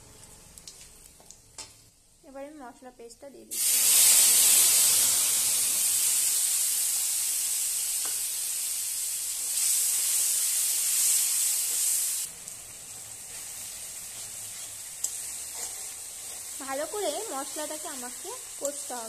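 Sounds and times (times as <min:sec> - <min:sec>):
paste sizzling in hot oil: 0:03.5 - 0:19.0.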